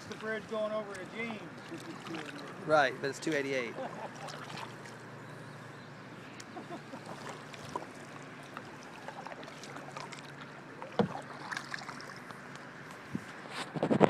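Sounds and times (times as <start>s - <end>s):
paddle strokes in water: 0.0s - 5.2s, 6.3s - 14.0s.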